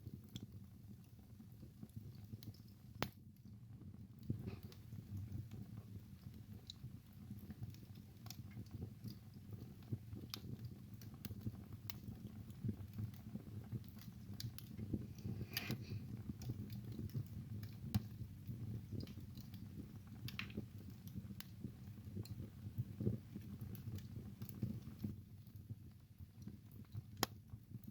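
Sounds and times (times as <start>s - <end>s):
fire rumbling: 0.0s - 27.9s
logs crackling and popping: 0.0s - 27.9s.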